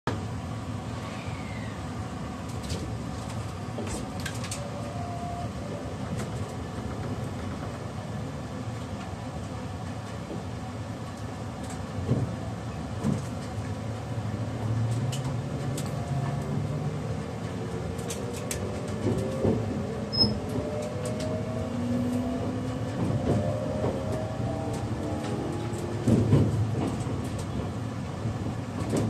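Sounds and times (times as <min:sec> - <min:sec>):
train interior rumble: 0:00.1 - 0:29.0.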